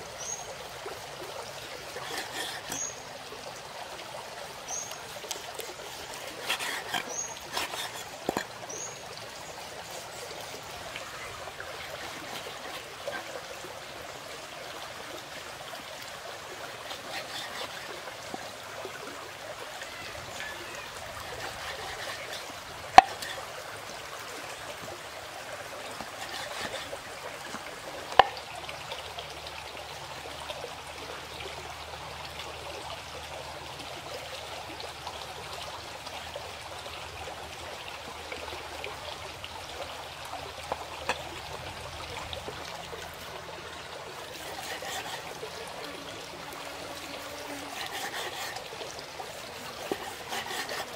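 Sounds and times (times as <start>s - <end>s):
stream trickling over rocks: 0.0s - 50.9s.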